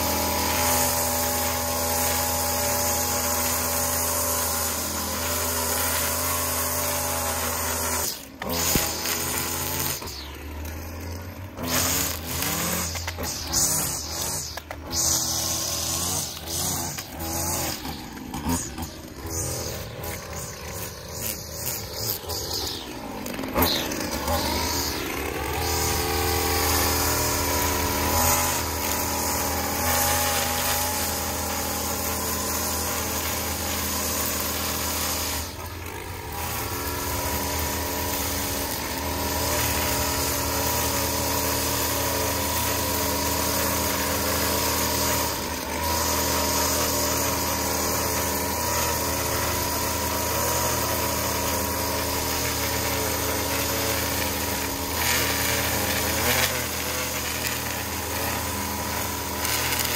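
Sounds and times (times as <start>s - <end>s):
string trimmer engine running: 0.0s - 59.9s
trimmer line cutting grass: 0.0s - 59.9s.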